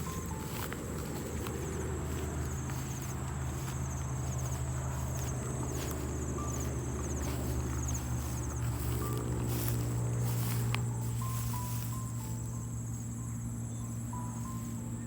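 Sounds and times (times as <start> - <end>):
footsteps on a dirt path: 0.0 - 14.8
insects trilling: 0.0 - 15.0
low drone: 0.0 - 15.0.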